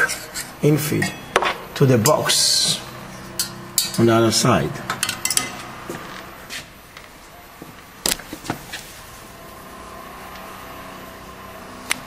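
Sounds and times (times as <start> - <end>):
packaging machinery humming: 0.0 - 12.0.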